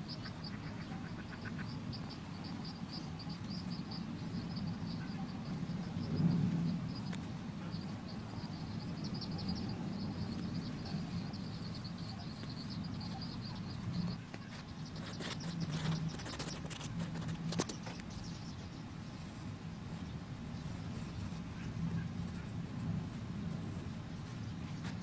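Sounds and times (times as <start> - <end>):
small bird chirping: 0.0 - 22.6.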